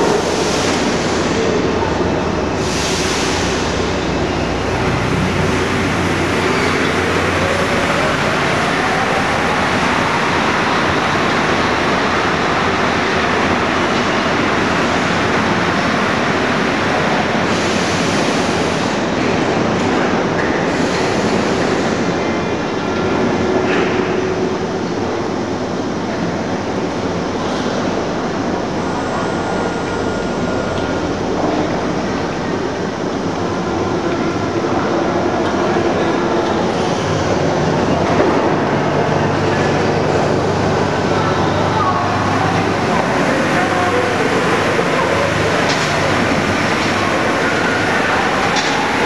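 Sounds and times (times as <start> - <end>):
train rolling rumble: 0.0 - 49.0.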